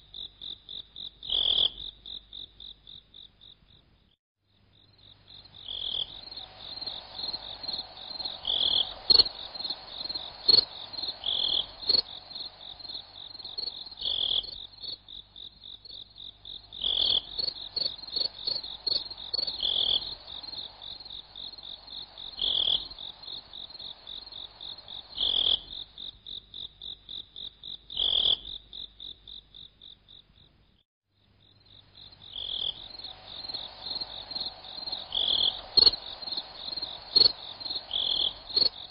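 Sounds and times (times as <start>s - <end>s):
insects trilling: 4.8s - 30.5s, 31.4s - 38.9s.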